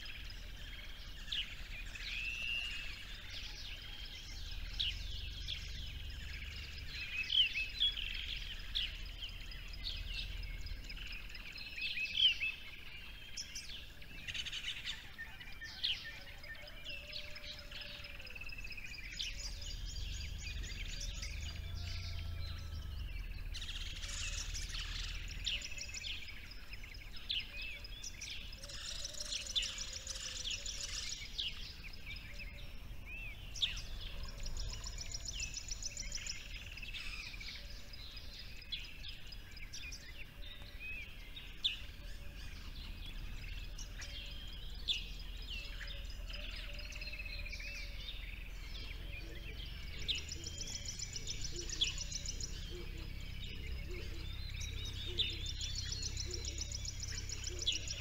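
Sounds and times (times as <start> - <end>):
low steady rumble: 0.0 - 15.1, 18.5 - 58.0
songbirds chirping and trilling: 0.0 - 58.0.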